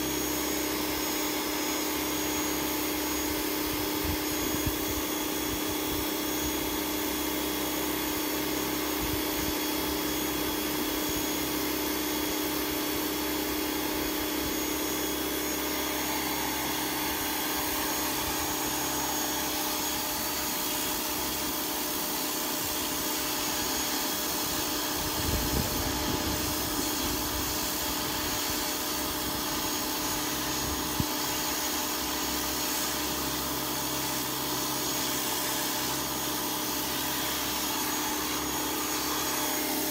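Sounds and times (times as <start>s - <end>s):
pressure washer motor hum: 0.0s - 39.9s.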